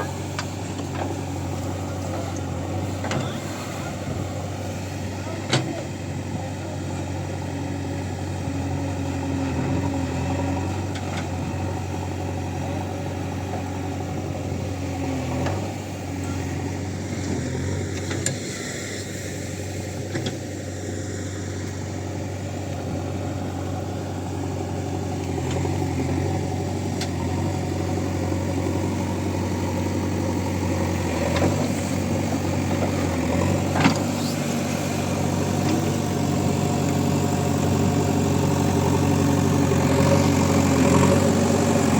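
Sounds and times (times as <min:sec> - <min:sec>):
backhoe diesel engine running: 0:00.0 - 0:41.9.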